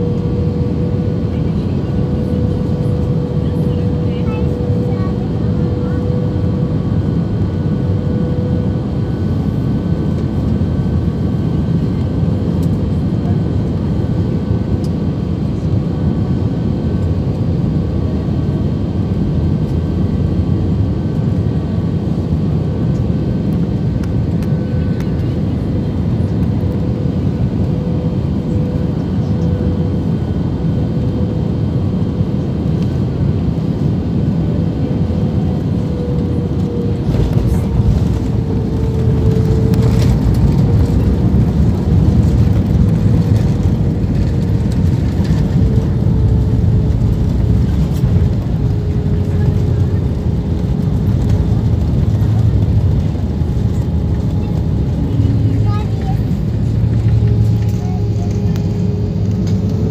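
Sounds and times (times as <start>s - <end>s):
airliner cabin roar: 0.0s - 59.9s
faint engine hum: 0.0s - 59.9s.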